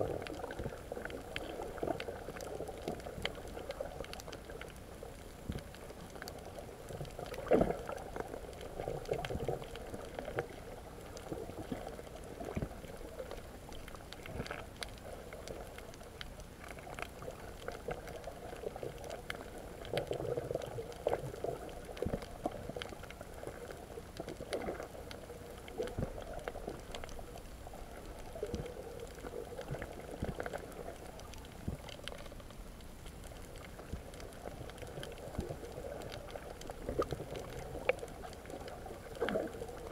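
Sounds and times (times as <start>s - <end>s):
underwater bubbling and sloshing: 0.0s - 39.9s
underwater clicks and crackles: 0.0s - 39.9s.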